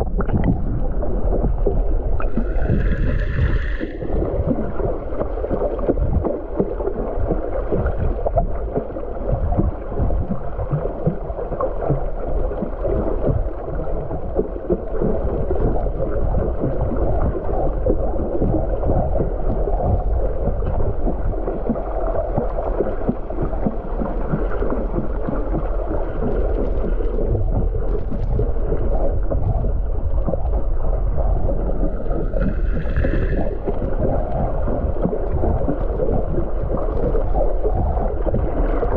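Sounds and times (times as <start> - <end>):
underwater rush of water: 0.0 - 38.9.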